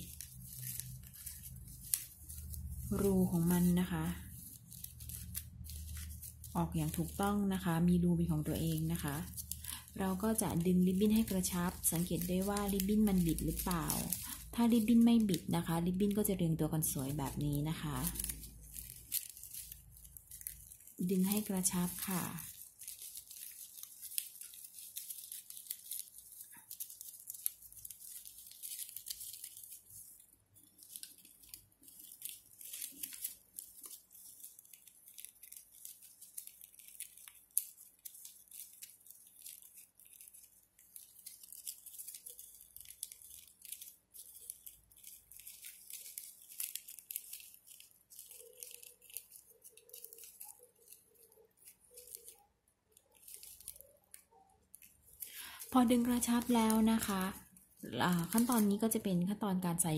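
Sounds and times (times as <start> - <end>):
ribbon rustling and crackling: 0.0 - 59.9.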